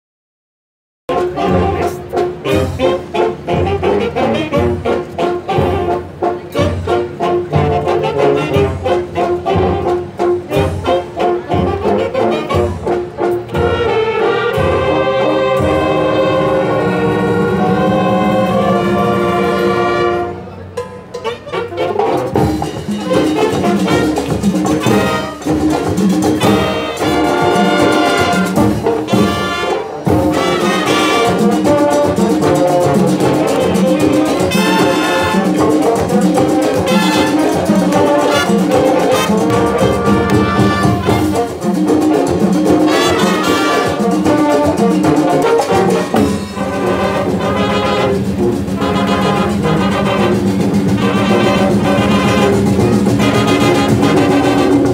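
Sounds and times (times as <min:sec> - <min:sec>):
marching band brass music: 0:01.1 - 0:54.9.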